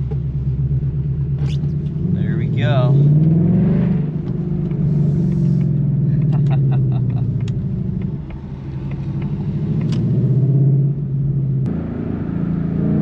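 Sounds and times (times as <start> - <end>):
deep car exhaust rumble: 0.0 - 13.0.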